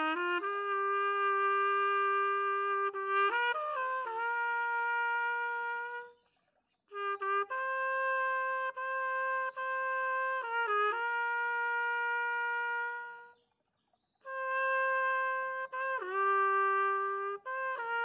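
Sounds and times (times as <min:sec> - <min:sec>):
solo trumpet melody: 0:00.0 - 0:06.2, 0:06.9 - 0:13.4, 0:14.2 - 0:18.0.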